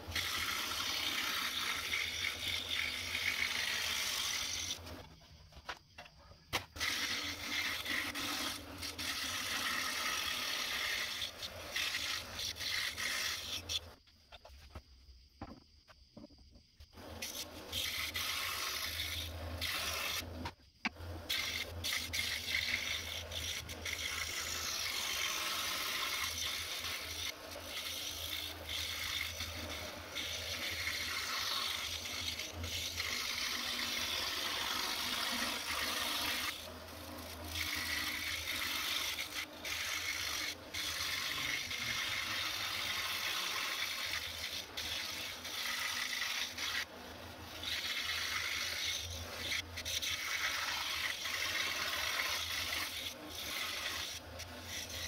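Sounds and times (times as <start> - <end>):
scroll saw cutting wood: 0.0 - 5.1, 6.6 - 14.0, 16.9 - 55.0.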